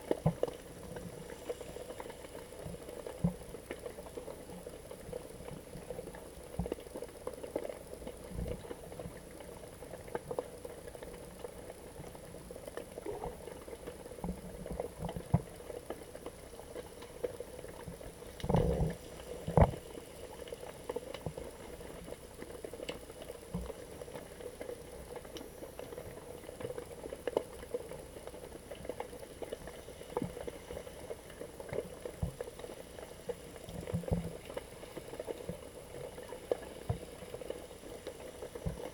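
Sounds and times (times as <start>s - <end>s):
small clicks and pops: 0.0s - 38.9s
underwater bubbling: 0.0s - 38.9s.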